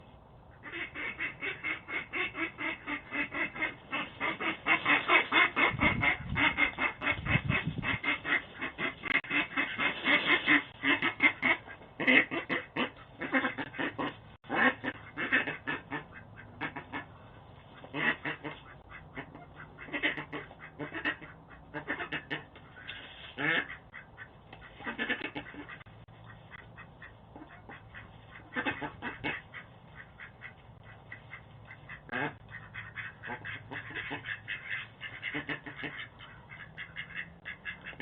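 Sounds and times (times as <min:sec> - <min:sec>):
ducks quacking: 0:00.5 - 0:38.0.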